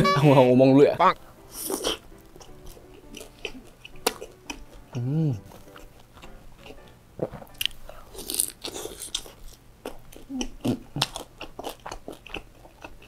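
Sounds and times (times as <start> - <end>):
crunchy bites and chewing: 1.6 - 13.0.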